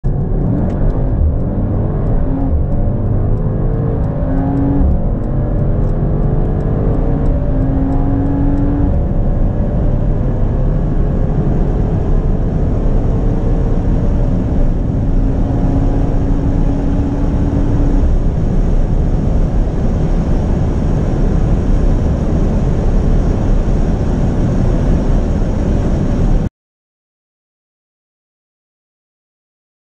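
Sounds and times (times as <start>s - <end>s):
car engine accelerating: 0.0s - 26.5s.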